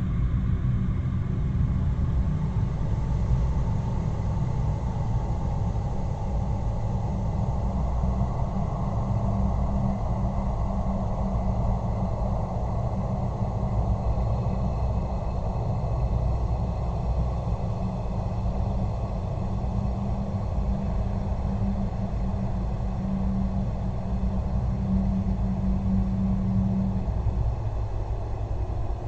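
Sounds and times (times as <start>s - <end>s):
deep rumbling drone: 0.0s - 29.0s.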